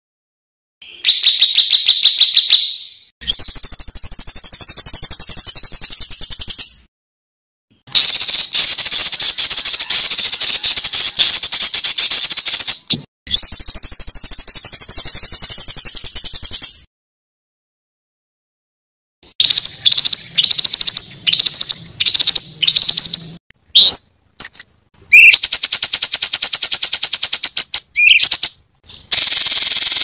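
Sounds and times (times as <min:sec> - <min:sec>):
songbird rattling trill: 0:00.9 - 0:06.8, 0:08.0 - 0:16.9, 0:19.4 - 0:30.0.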